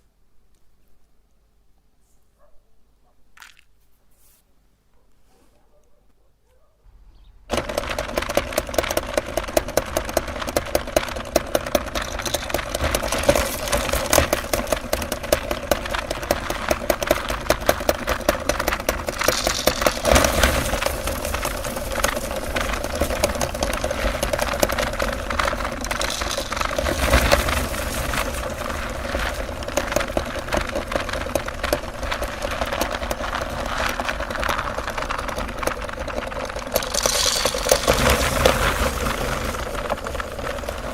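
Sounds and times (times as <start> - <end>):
meat grinder crunching candy: 7.5 - 40.9.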